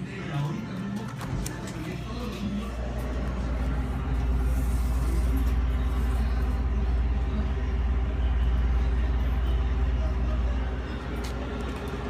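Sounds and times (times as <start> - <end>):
refrigerator rumble and hum: 0.0 - 12.0.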